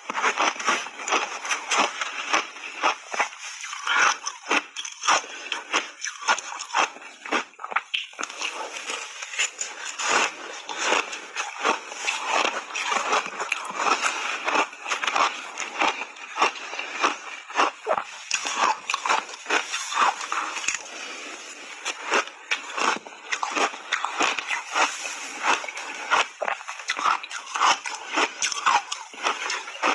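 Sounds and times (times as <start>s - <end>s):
ice being chewed: 0.0s - 29.9s.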